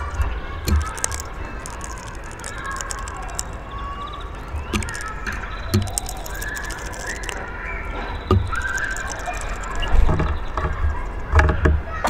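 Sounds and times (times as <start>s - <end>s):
faint bird chirps: 0.0s - 12.0s
small ticks: 0.0s - 12.0s.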